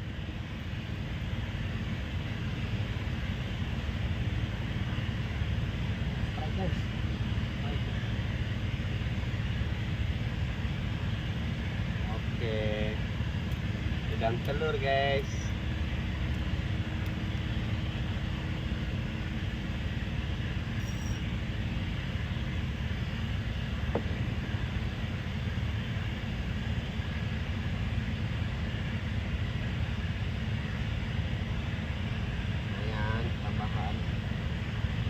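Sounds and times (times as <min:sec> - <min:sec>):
steady low rumbling noise: 0:00.0 - 0:35.0.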